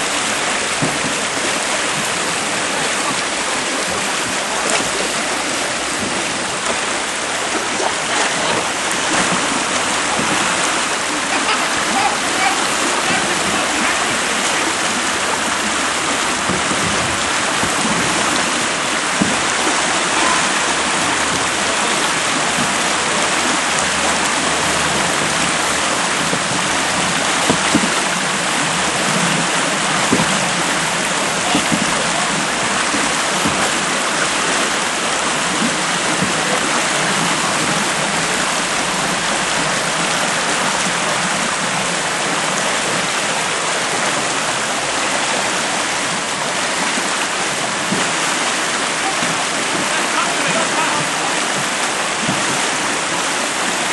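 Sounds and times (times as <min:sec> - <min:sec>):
whitewater rushing over rapids: 0:00.0 - 0:53.9.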